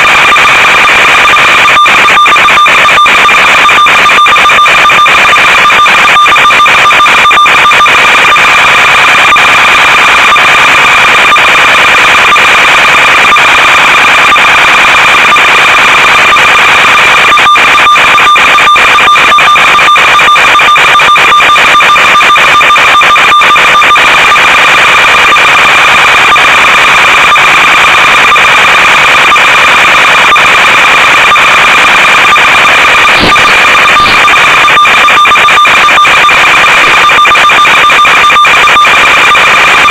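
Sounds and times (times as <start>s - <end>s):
constant electronic whine: 0.0s - 39.9s.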